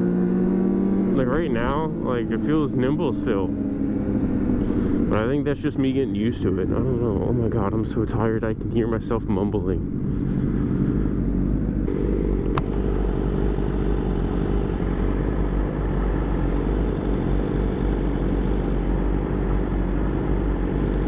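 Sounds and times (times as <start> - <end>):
motorcycle engine while riding: 0.0 - 21.0.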